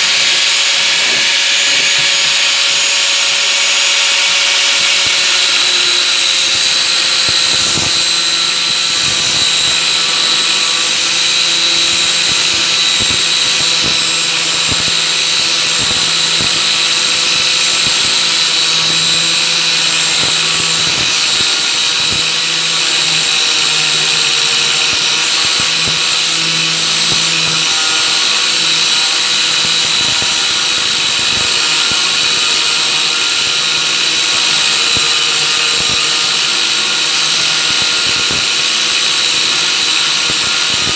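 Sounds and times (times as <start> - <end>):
angle grinder cutting metal: 0.0 - 40.9.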